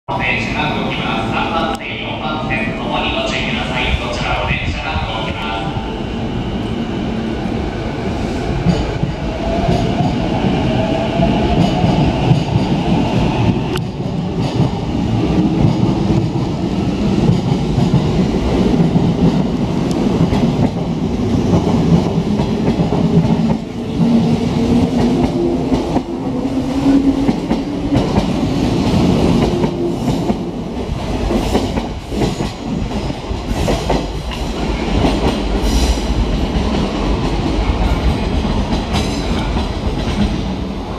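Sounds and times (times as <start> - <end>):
electric train passing: 0.1 - 40.9.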